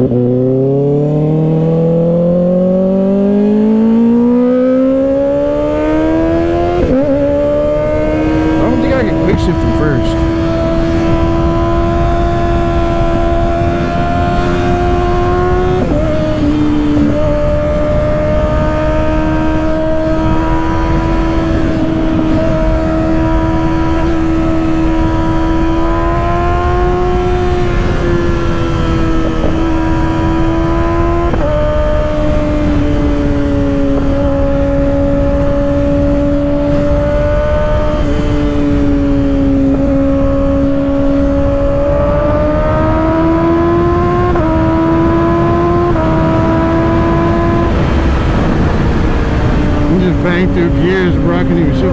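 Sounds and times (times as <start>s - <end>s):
motorcycle engine: 0.0s - 51.9s
wind rush: 5.0s - 51.9s.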